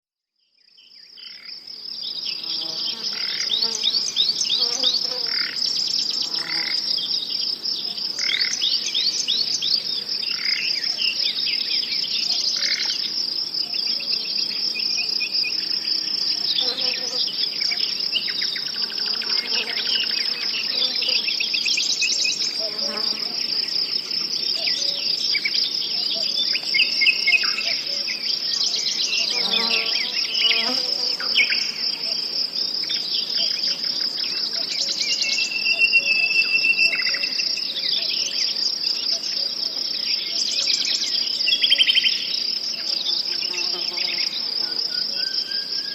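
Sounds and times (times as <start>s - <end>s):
crickets trilling: 0.8s - 45.9s.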